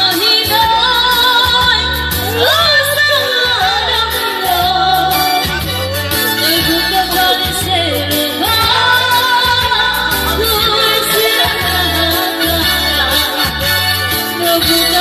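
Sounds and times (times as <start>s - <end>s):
woman singing slow melody: 0.0s - 5.6s, 6.4s - 15.0s
backing music with bass line: 0.0s - 15.0s.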